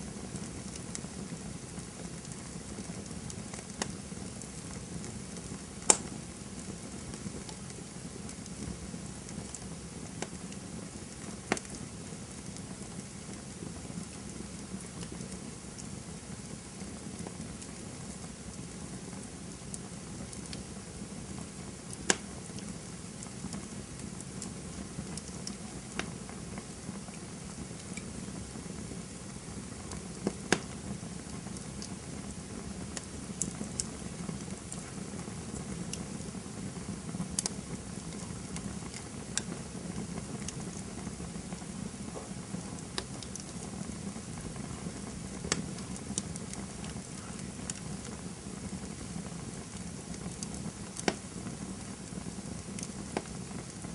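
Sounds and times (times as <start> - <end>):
campfire hissing: 0.0 - 53.9
fire crackles and pops: 0.0 - 53.9.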